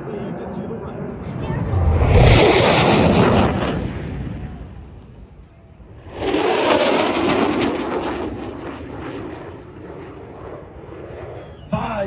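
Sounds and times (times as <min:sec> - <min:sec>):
aircraft engines passing: 0:00.0 - 0:12.0.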